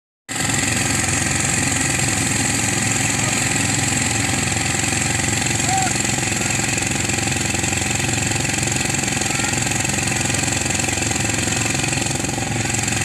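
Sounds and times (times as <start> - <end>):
thresher engine drone: 0.3 - 13.0.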